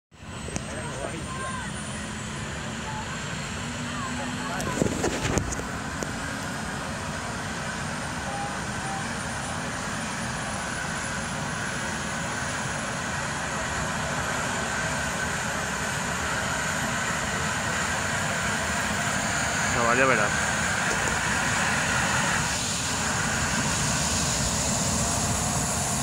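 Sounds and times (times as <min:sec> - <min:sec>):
helicopter starting up: 0:00.2 - 0:26.0
turbine whine rising in pitch: 0:00.2 - 0:26.0.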